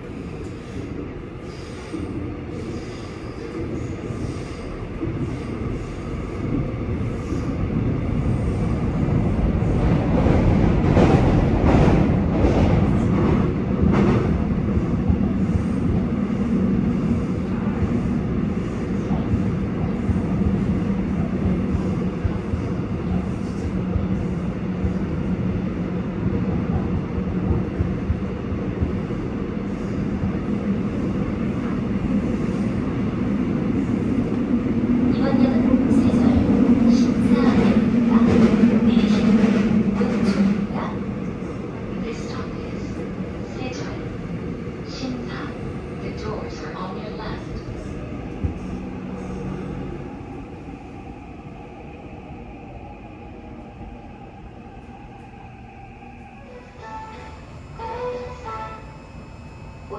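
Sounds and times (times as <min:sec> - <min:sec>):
electric train rumble: 0:00.0 - 0:59.9
steady train hum: 0:00.0 - 0:59.9.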